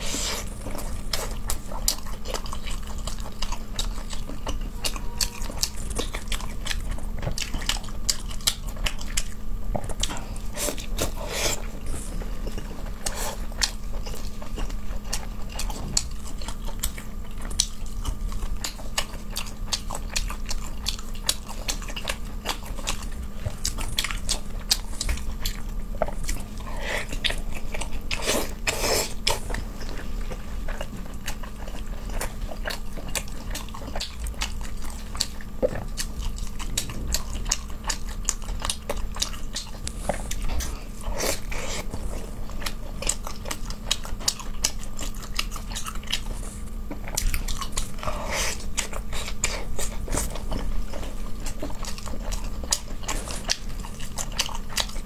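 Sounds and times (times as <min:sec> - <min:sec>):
person chewing fish: 0:00.0 - 0:55.0.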